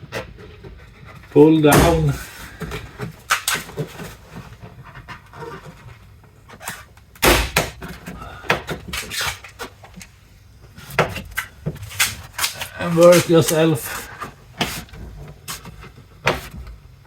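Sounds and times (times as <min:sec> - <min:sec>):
plastic rubbing: 0:00.0 - 0:17.0.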